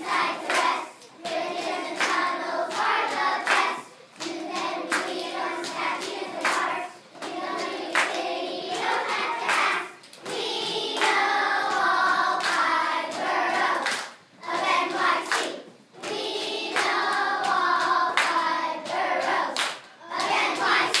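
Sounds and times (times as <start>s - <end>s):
children's choir singing: 0.0s - 21.0s
sharp handclaps: 0.4s - 21.0s.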